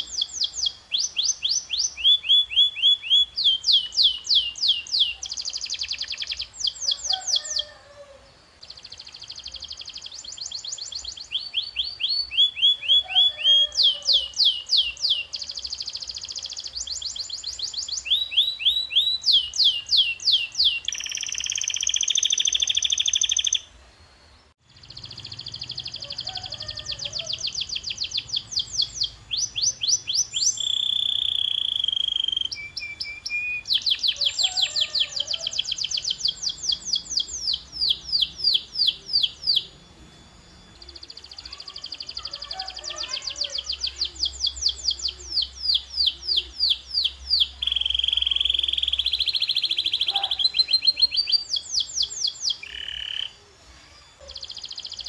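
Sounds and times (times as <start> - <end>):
canary singing: 0.0 - 23.8, 24.6 - 55.0.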